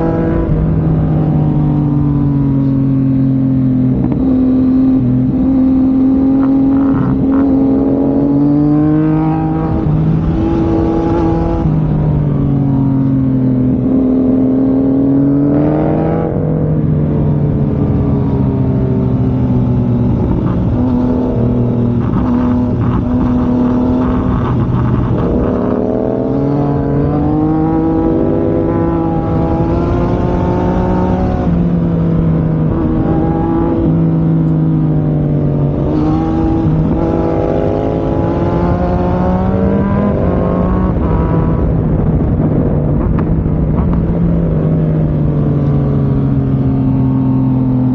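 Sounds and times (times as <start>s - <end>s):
wind rush: 0.0s - 47.0s
motorcycle engine revving: 0.0s - 47.9s.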